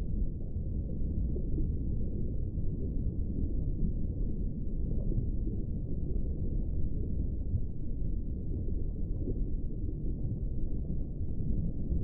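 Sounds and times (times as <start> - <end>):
muffled underwater rumble: 0.0 - 12.0.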